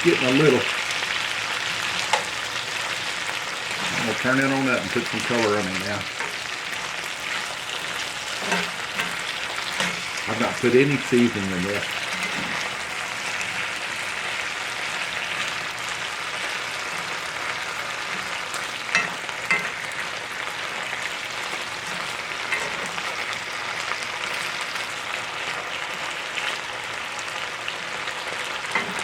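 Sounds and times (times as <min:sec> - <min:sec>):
food sizzling in skillet: 0:00.0 - 0:29.0.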